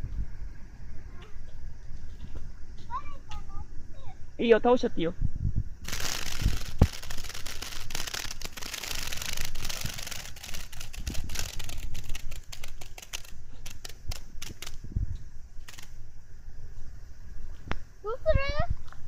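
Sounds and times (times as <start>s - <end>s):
cicada buzzing and clicking: 1.1s - 4.9s, 5.8s - 19.0s.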